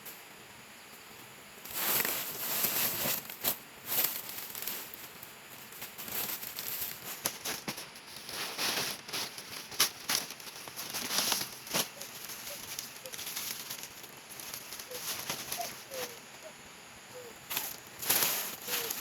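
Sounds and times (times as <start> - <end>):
dry plants rustling and snapping: 1.7 - 16.5, 17.1 - 19.0.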